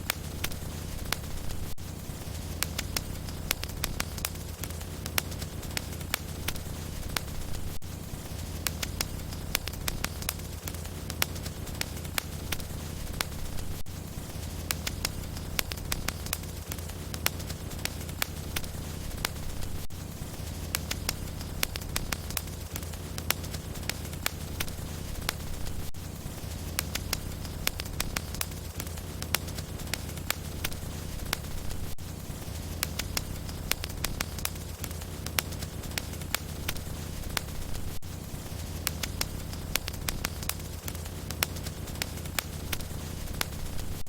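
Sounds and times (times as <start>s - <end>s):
low fire rumble: 0.0s - 44.0s
wood fire crackling: 0.0s - 44.0s.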